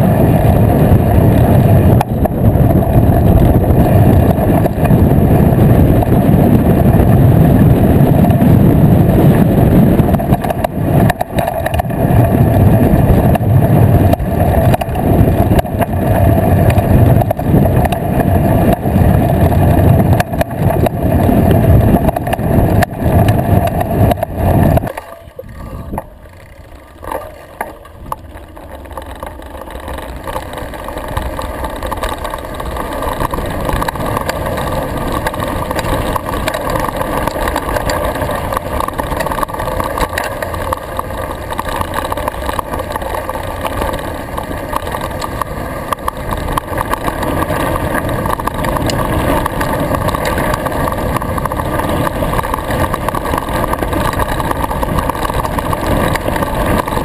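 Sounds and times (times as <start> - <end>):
bike rattling and knocking: 0.0 - 57.0
knobby tyres rumbling: 0.0 - 57.0.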